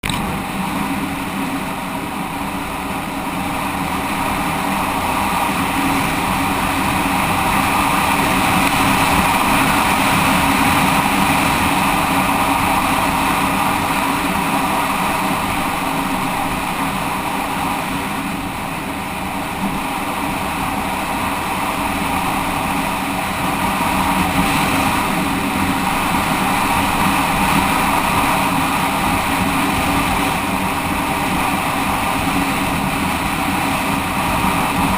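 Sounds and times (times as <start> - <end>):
motorcycle engine running: 0.0 - 34.9
road and wind noise: 0.0 - 34.9.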